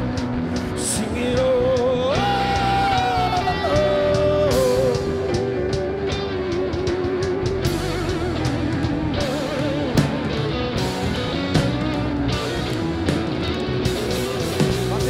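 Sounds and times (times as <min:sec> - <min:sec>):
drums: 0:00.0 - 0:15.0
electric guitars: 0:00.0 - 0:15.0
wavering lead melody: 0:00.0 - 0:15.0.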